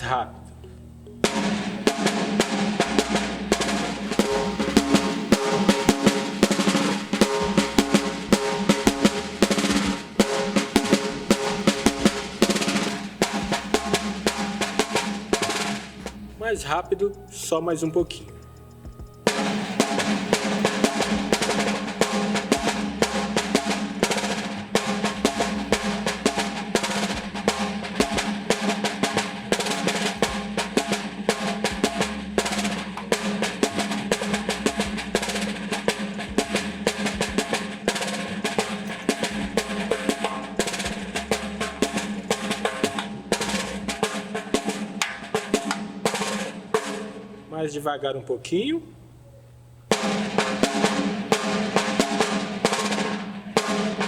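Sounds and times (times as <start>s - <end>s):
snare drum played quickly: 1.3s - 17.2s, 19.2s - 47.1s, 49.9s - 54.0s.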